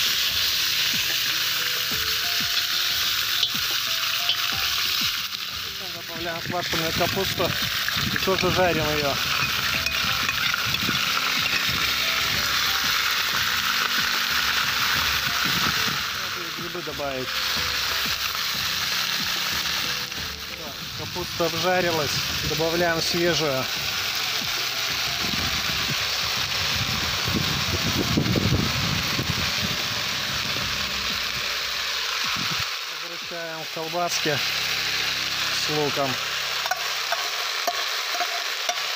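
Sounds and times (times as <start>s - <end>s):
cabbage sizzling in a pot: 0.0s - 38.9s.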